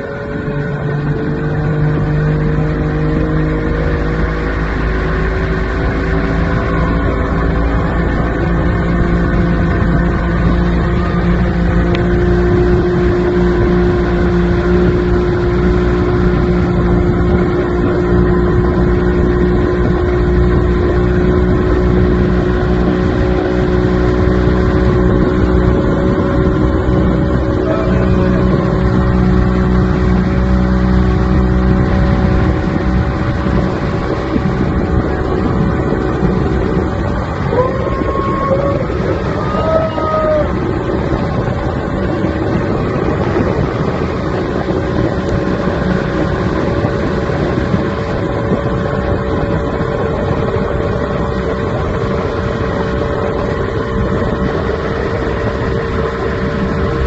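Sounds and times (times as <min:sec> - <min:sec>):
motorboat engine drone: 0:00.0 - 0:57.0.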